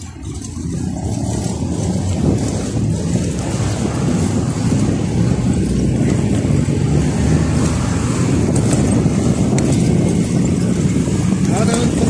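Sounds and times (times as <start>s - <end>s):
vehicle rumble: 0.0s - 12.0s
wind on microphone: 0.0s - 12.0s.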